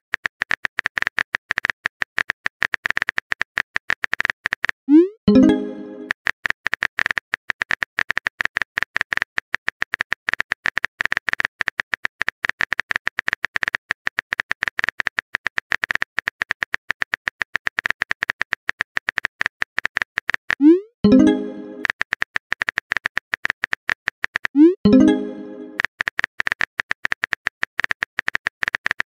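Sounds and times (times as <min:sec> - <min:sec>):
keyboard typing clicks: 0:00.4 - 0:29.0.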